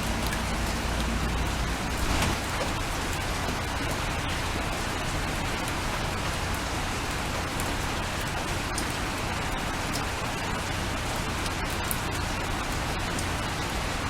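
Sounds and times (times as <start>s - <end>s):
raindrop ticks: 0.0s - 14.0s
steady rain hissing: 0.0s - 14.0s.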